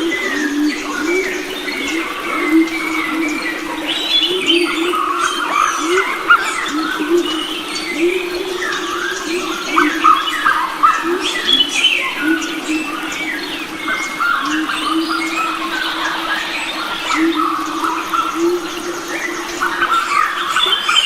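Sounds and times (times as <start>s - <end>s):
birds chirping and whistling: 0.0s - 21.0s
low repeated bird call: 0.0s - 21.0s.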